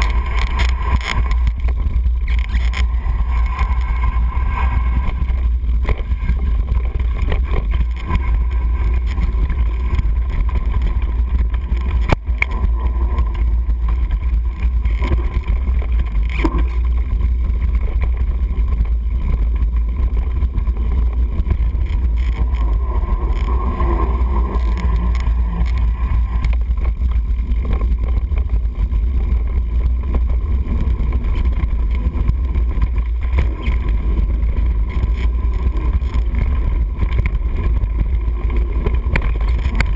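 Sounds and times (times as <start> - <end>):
bike rattling over bumps: 0.0 - 39.9
tyre noise: 0.0 - 39.9
wind rumble on microphone: 0.0 - 39.9.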